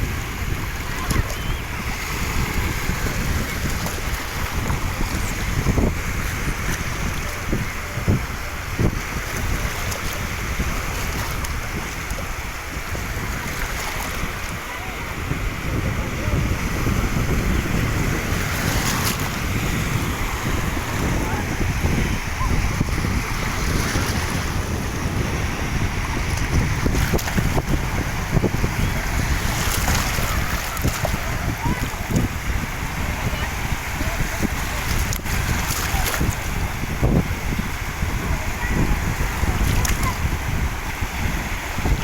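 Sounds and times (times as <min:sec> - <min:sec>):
water: 0:00.0 - 0:42.0
wind buffeting microphone: 0:00.0 - 0:42.0.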